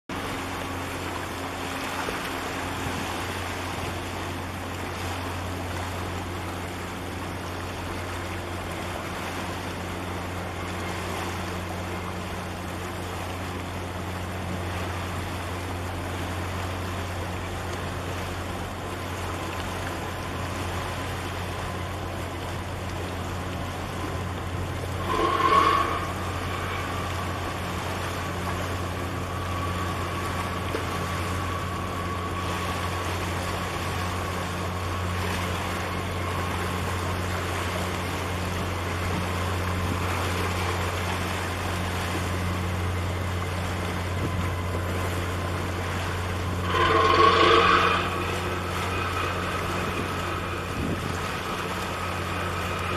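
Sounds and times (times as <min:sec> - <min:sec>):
ship machinery low drone: 0:00.1 - 0:52.9
water hiss and wind: 0:00.1 - 0:52.9.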